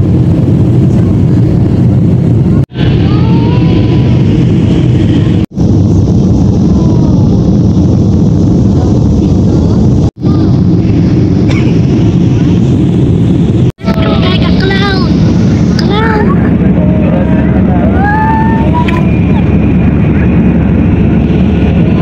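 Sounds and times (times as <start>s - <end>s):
jet airliner cabin roar: 0.0s - 22.0s.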